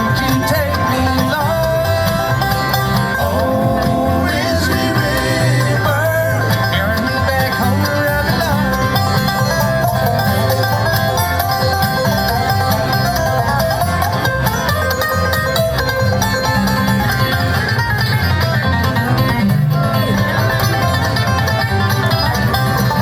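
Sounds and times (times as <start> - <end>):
bluegrass banjo and guitar music: 0.0 - 23.0.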